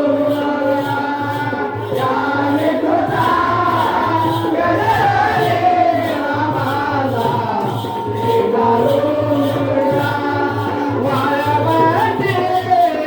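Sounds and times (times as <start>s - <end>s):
steady drum beat: 0.0s - 13.0s
voices singing together: 0.0s - 13.0s.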